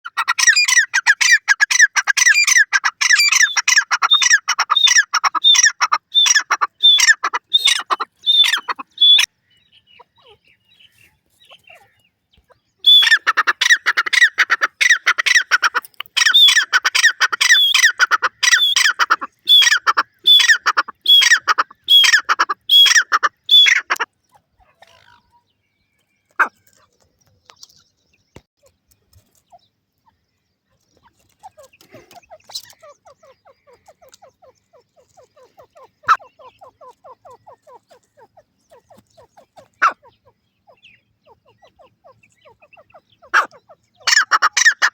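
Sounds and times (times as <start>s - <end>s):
francolin calling: 0.0s - 44.9s.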